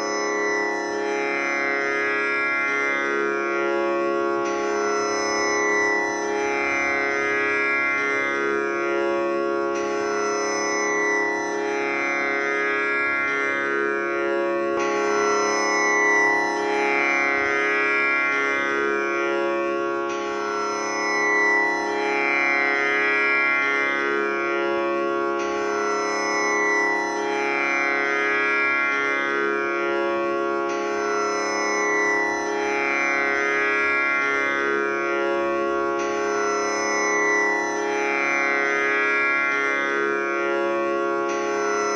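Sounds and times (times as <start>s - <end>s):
tanpura drone: 0.0s - 41.9s.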